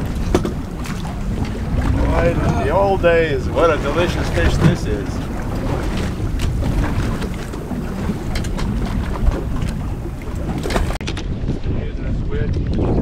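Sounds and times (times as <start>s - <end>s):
choppy sea along hull: 0.0s - 13.0s
wind buffeting microphone: 0.0s - 13.0s.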